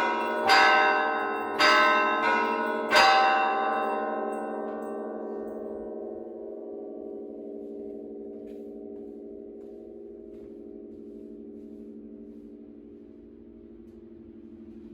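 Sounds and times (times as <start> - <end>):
church bells ringing: 0.0 - 12.4
low wavering bell hum: 0.0 - 14.9.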